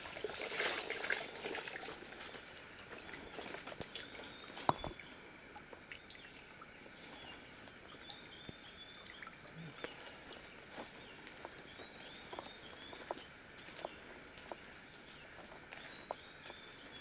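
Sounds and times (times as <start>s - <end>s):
faint birdsong chirping: 1.6s - 17.0s.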